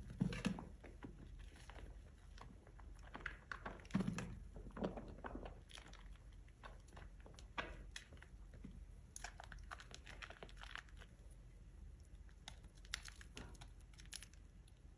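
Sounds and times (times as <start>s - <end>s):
soap being scuffed and crushed: 0.0s - 11.4s, 12.1s - 14.8s.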